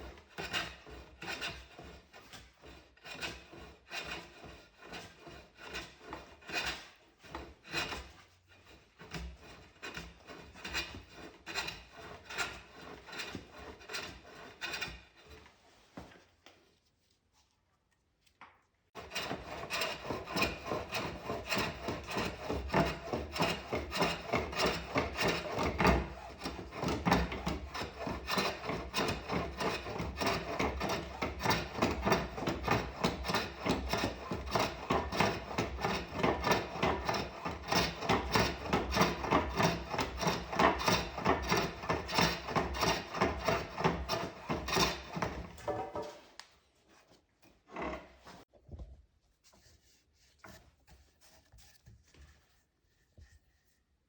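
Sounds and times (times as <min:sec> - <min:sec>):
edged tool scraping wood: 0:00.0 - 0:16.7, 0:19.0 - 0:48.5.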